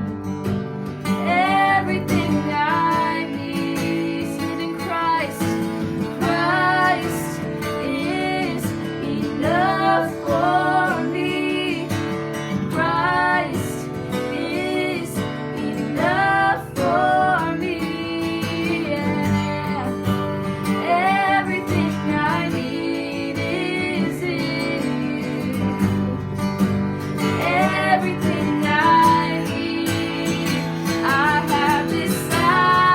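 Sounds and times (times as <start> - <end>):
strummed acoustic guitar: 0.0 - 32.9
woman singing: 1.0 - 32.9.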